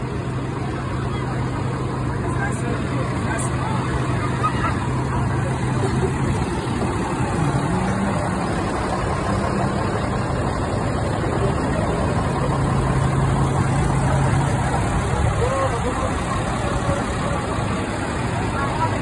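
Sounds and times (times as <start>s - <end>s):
garbage truck engine idling: 0.0s - 19.0s
street traffic: 0.0s - 19.0s.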